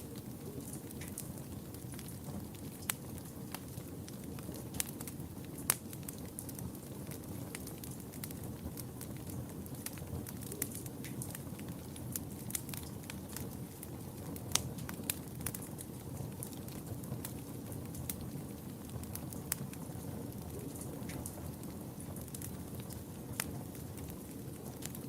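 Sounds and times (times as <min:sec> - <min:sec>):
fire burning in a fireplace: 0:00.0 - 0:25.0
fire crackles and pops: 0:00.0 - 0:25.0.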